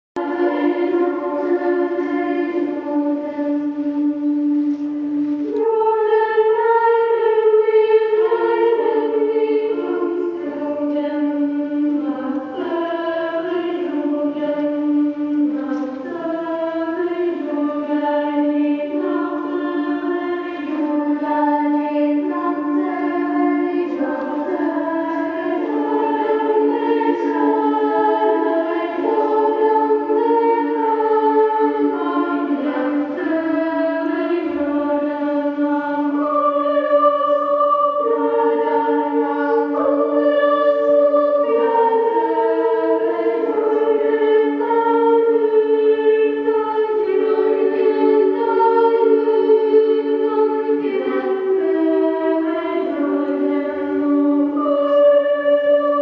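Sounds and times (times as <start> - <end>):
choral singing in held chords: 0.2 - 56.0.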